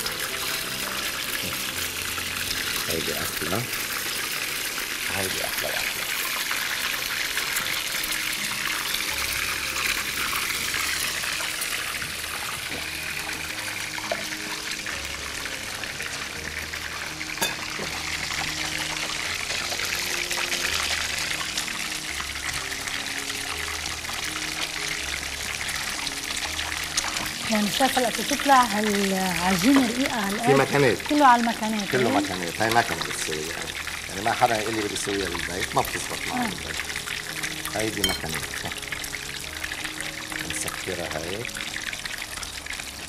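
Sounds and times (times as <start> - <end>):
pastries sizzling in hot oil: 0.0 - 43.0.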